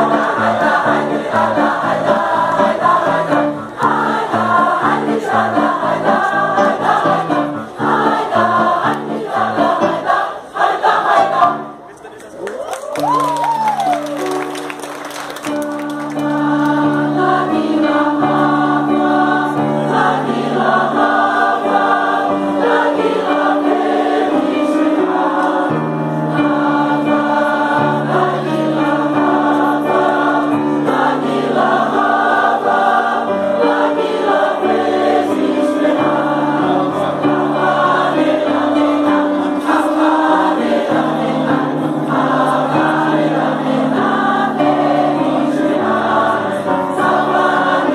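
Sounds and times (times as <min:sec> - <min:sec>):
choir singing in harmony: 0:00.0 - 0:11.8, 0:14.3 - 0:47.9.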